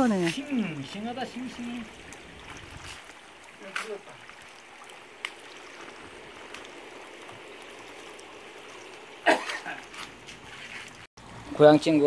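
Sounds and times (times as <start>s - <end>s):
water trickling into basin: 0.0s - 12.0s.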